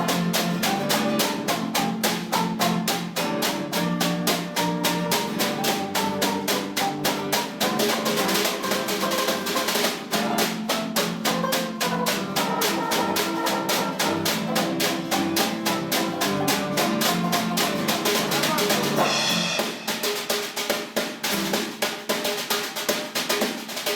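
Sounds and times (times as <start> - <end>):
held instrument notes: 0.0 - 19.9
drum kit fast beat: 0.0 - 23.9.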